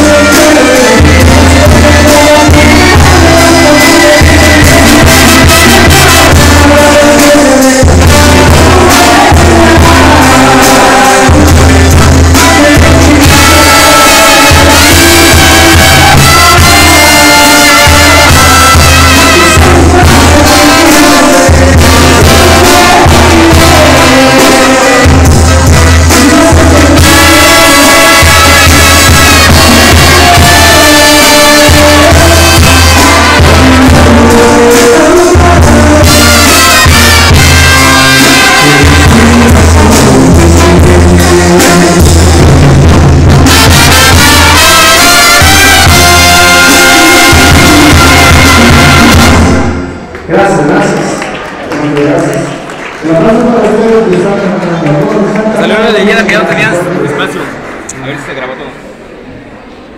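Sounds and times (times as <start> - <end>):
drums and cymbal: 0.0 - 49.8
man singing: 0.0 - 56.9
live brass band music: 0.0 - 57.7.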